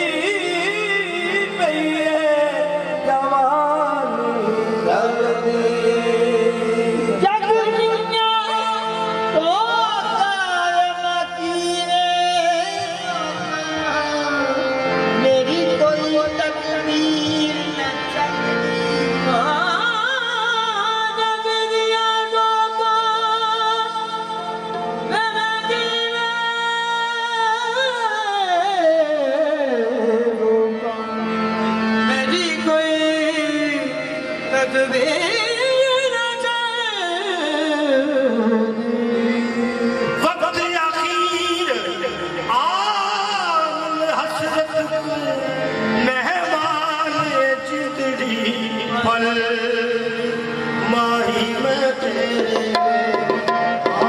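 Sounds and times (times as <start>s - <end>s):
harmonium notes: 0.0s - 54.0s.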